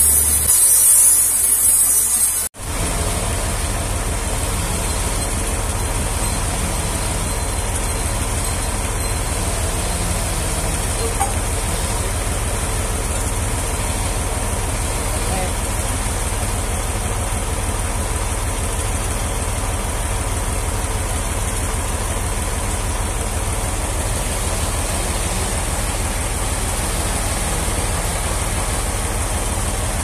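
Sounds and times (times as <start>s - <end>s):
band sawmill droning: 0.0s - 30.0s.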